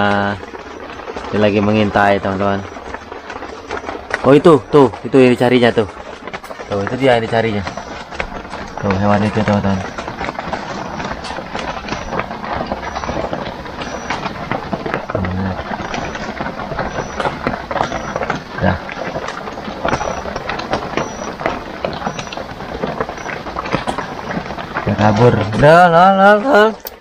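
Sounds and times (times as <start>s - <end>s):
light drizzle pattering: 0.0s - 27.0s.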